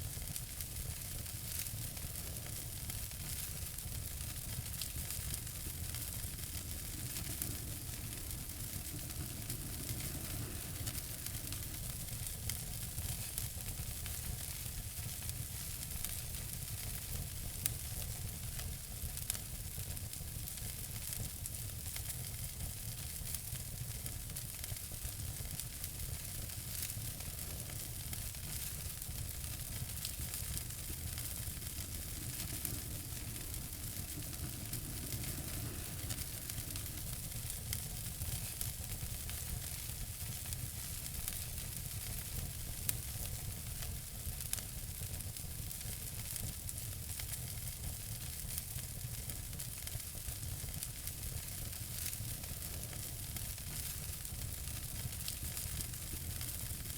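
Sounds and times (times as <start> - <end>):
wood fire crackling: 0.0 - 56.9
loud fire pops: 0.1 - 56.9.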